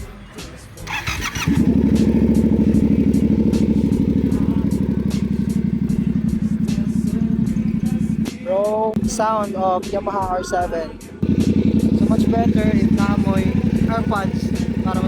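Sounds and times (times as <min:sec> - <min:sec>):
motorcycle engine idling: 0:00.8 - 0:15.0.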